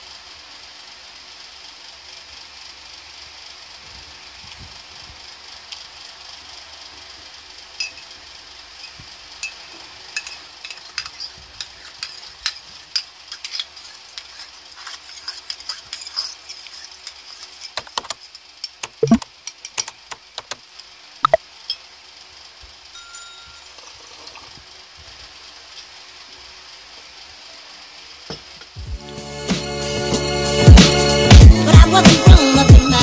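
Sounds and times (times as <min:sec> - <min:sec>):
steady high hiss: 0:00.0 - 0:33.0.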